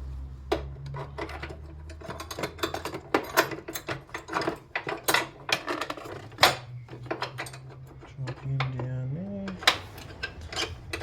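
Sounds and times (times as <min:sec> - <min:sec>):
hand tools clinking on metal: 0:00.8 - 0:11.0.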